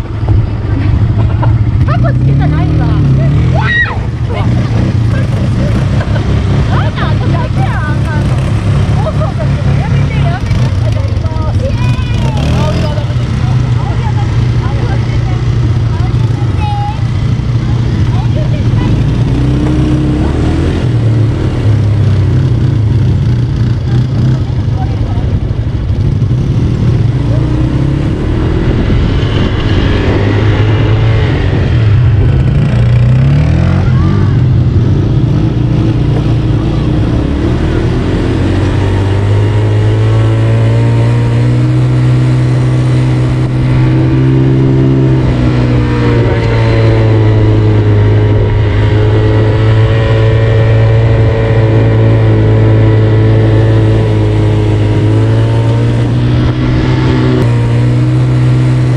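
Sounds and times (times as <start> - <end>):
atv engine revving: 0.0 - 58.9.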